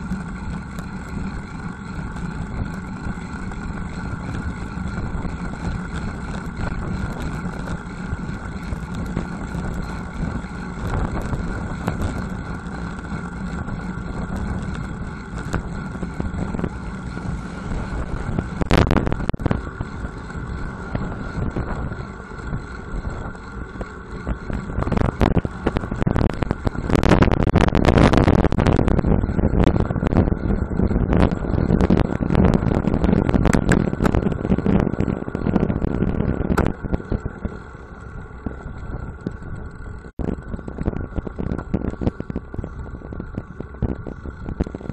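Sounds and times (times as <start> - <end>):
tyres rumbling on asphalt: 0.0 - 44.9
wind buffeting microphone: 0.0 - 44.9.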